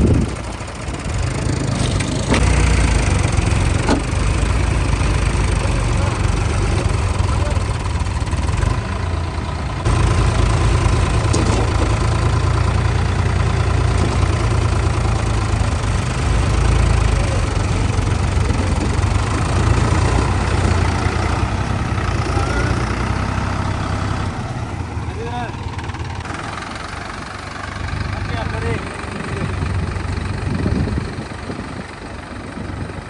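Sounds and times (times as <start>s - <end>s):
tractor diesel engine rumbling: 0.0s - 33.0s.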